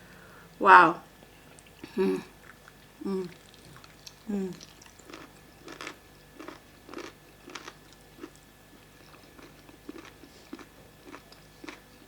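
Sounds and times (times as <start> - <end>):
person chewing food: 1.2 - 12.0.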